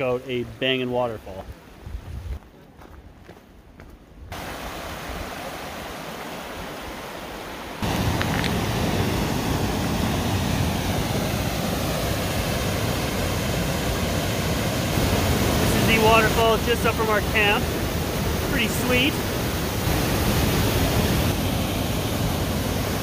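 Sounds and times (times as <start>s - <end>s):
waterfall rushing water: 4.3s - 23.0s.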